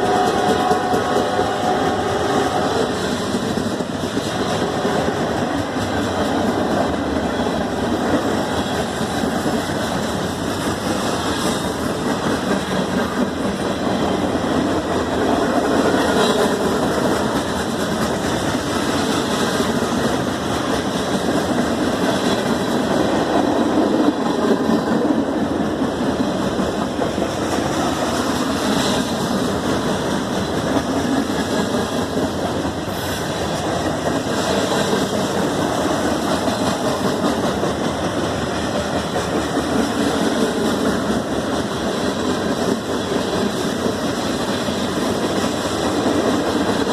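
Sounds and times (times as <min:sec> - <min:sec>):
freight train wheels rumbling: 0:00.0 - 0:46.9.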